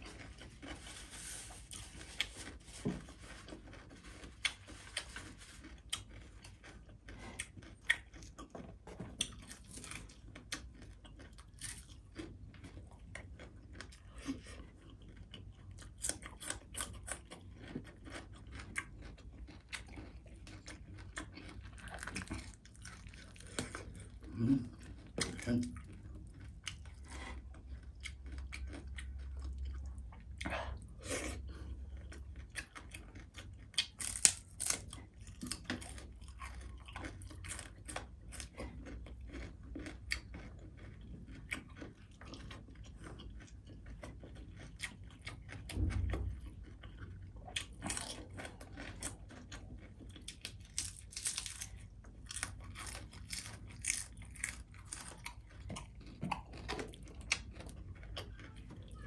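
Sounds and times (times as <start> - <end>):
person chewing crispy food: 0.0 - 59.0.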